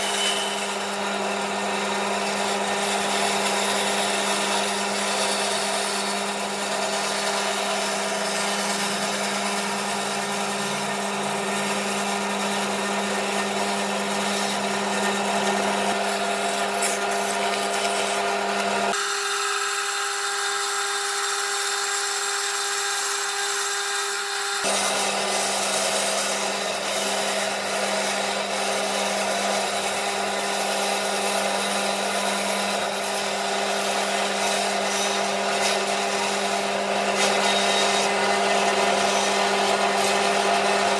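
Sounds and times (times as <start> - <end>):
power tool motor hum: 0.0 - 40.9.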